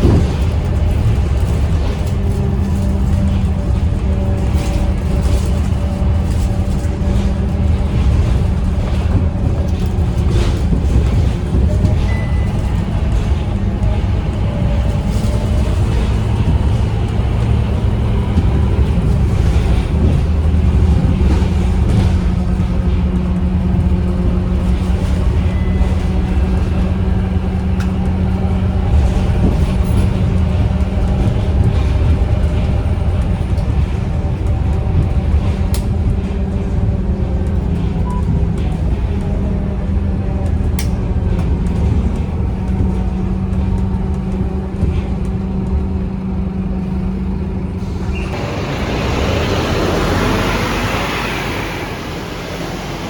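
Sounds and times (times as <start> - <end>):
bus diesel engine drone: 0.0 - 53.0.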